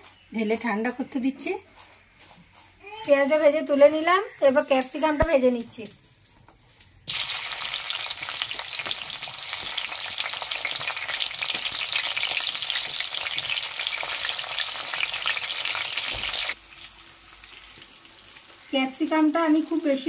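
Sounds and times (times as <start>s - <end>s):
pepper sizzling in hot oil: 3.1s - 20.0s.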